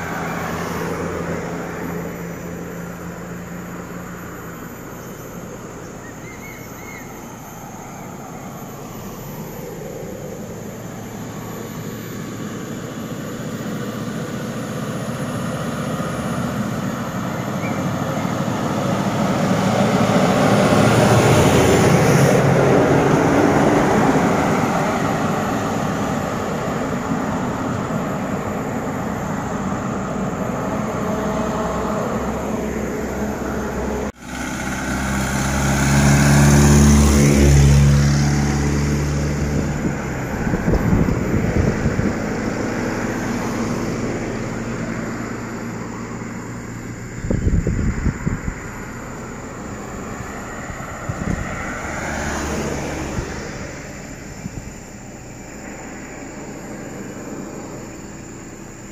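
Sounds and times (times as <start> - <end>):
truck diesel engine passing: 0.0 - 58.9.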